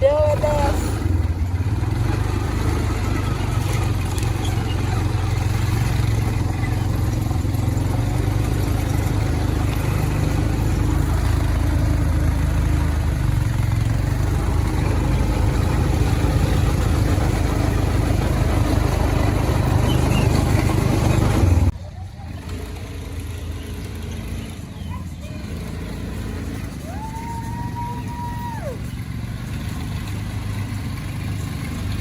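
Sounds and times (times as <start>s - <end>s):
quad bike engine running: 0.0s - 32.0s.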